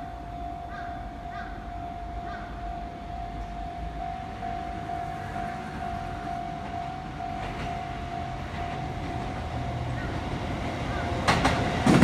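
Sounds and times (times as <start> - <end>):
approaching train rumble: 0.0 - 12.0
level-crossing alarm bell: 0.0 - 12.0.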